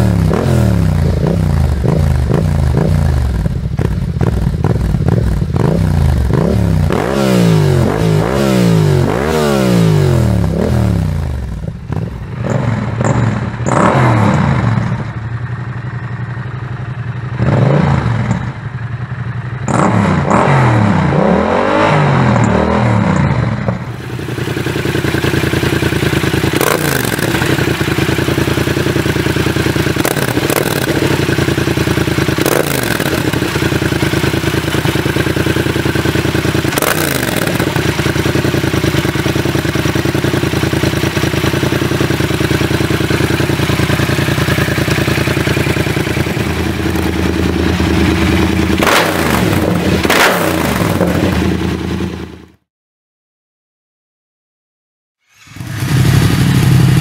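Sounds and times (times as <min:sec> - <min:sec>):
motorcycle engine idling: 0:00.0 - 0:08.3, 0:09.9 - 0:20.9, 0:22.3 - 0:52.6, 0:55.6 - 0:57.0
motorcycle engine revving: 0:00.0 - 0:52.7, 0:55.2 - 0:57.0.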